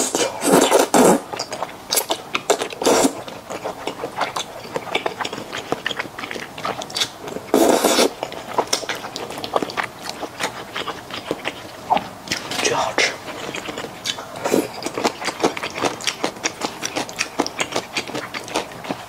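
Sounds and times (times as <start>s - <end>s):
noodle slurping: 0.0s - 1.2s, 2.0s - 4.4s, 5.0s - 9.8s, 10.4s - 18.7s
wet chewing and mouth clicks: 0.1s - 19.0s.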